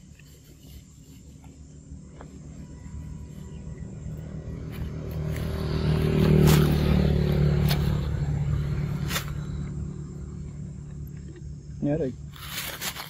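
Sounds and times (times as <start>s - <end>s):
motorcycle passing by: 1.7s - 12.7s.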